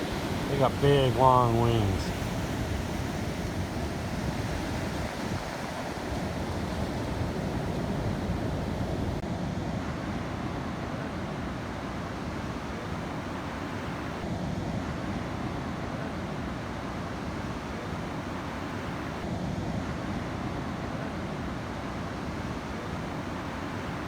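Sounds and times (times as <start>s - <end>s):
ocean surf: 0.0s - 24.0s.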